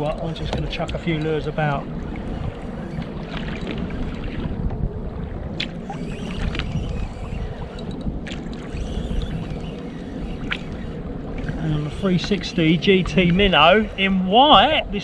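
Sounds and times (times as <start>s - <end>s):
water sloshing against kayak hull: 0.0s - 14.8s
wind on microphone: 0.0s - 15.0s.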